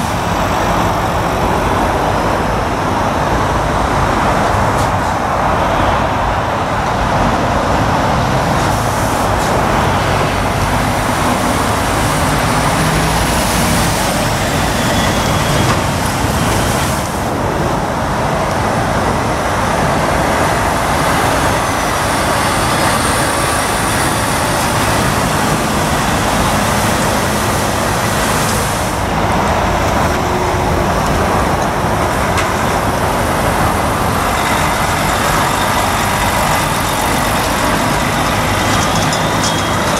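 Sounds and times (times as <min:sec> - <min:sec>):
diesel truck engines running: 0:00.0 - 0:39.9.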